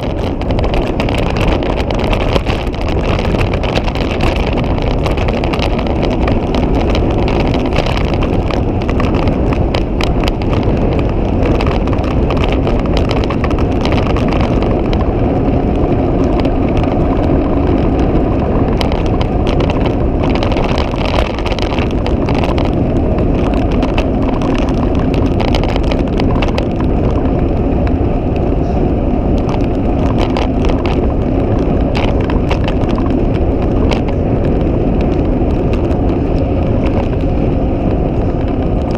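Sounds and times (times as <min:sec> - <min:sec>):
small clicks and rattles: 0:00.0 - 0:38.9
wind buffeting microphone: 0:00.0 - 0:38.9.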